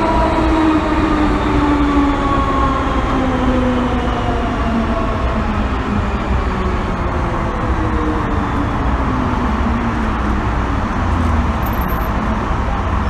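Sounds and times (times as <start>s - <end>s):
subway car rumble: 0.0s - 13.0s.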